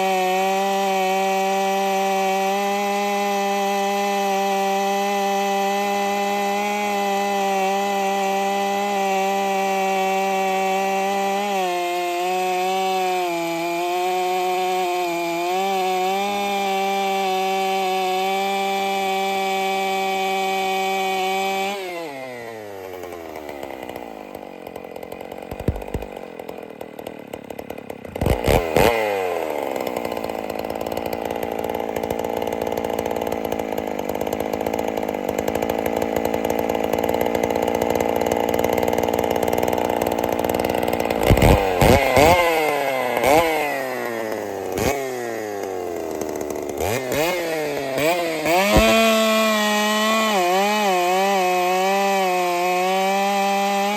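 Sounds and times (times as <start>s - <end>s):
chainsaw revving and idling: 0.0s - 53.9s.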